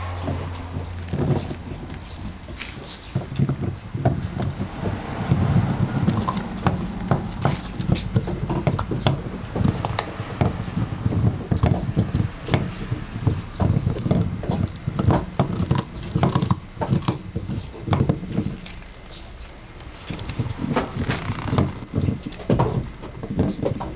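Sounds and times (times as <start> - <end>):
dog chewing: 0.0 - 23.9.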